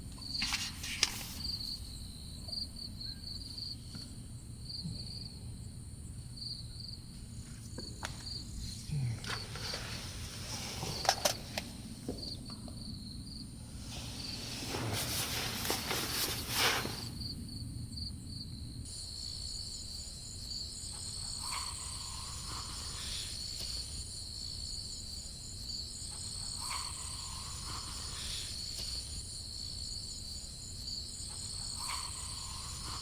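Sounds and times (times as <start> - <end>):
crickets trilling: 6.4 - 33.0.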